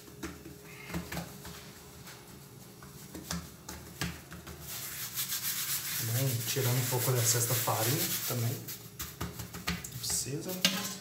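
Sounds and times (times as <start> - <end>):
palms rubbing over dough: 0.0 - 10.8
hands patting dough: 0.0 - 11.0.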